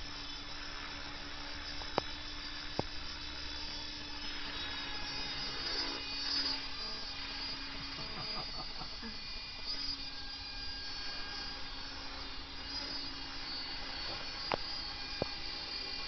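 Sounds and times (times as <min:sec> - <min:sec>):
model helicopter whine: 0:00.0 - 0:16.0.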